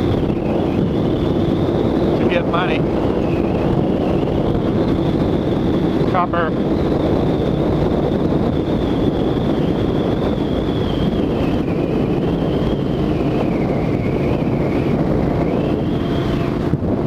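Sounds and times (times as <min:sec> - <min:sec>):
high whine dropping in pitch: 0:00.0 - 0:17.0
motorcycle riding: 0:00.0 - 0:17.0
wind on microphone: 0:00.0 - 0:17.0.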